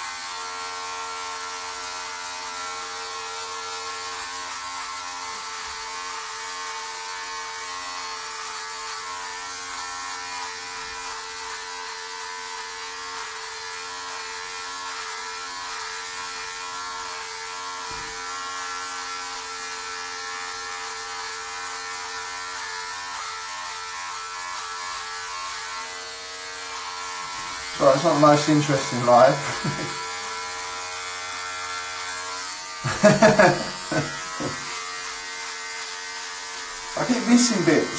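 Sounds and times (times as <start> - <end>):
electric shaver buzzing: 0.0 - 37.9.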